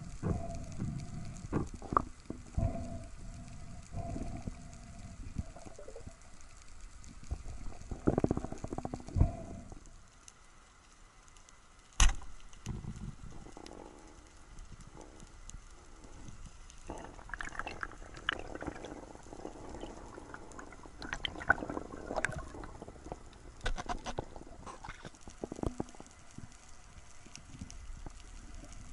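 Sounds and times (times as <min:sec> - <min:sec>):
steady hum: 0:00.0 - 0:28.9.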